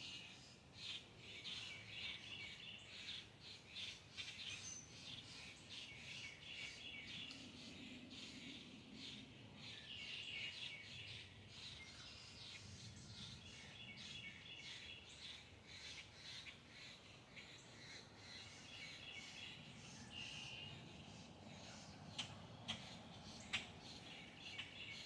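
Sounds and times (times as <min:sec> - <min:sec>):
birds chirping in chorus: 0:00.2 - 0:25.0.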